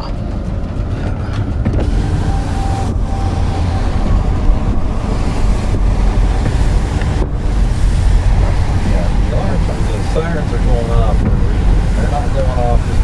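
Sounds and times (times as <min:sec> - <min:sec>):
tornado warning siren: 0:00.0 - 0:13.0
wind buffeting microphone: 0:00.0 - 0:13.0.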